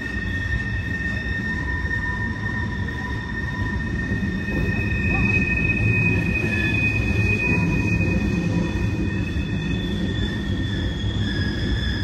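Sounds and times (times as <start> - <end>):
wheels squealing: 0.0 - 12.0.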